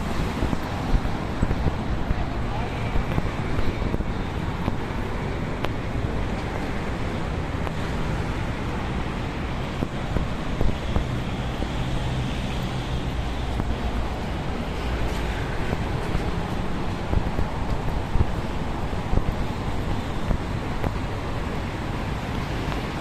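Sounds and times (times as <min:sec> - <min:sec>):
cars and motorbikes passing: 0:00.0 - 0:23.0
wind on microphone: 0:00.0 - 0:23.0.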